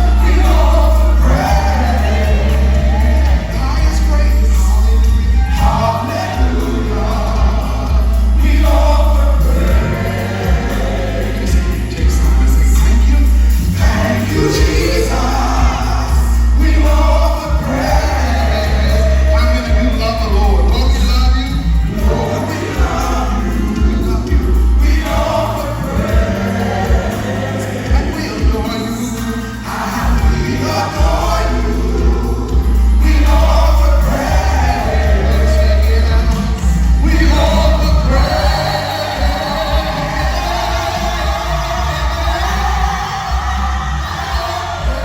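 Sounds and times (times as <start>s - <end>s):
gospel group singing in harmony: 0.0s - 45.0s
heavy held bass notes: 0.0s - 45.0s
live band playing: 0.0s - 45.0s.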